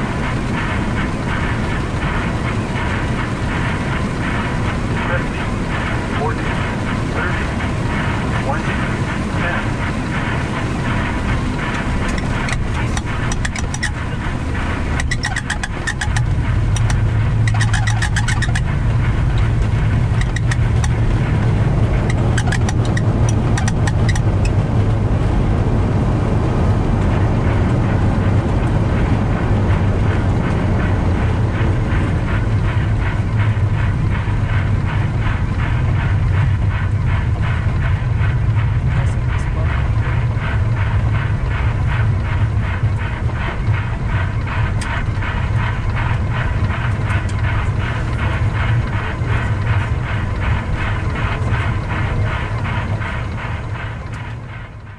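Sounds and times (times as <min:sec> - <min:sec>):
aircraft rolling rumble and hiss: 0:00.0 - 0:54.9
low drone: 0:00.0 - 0:54.9.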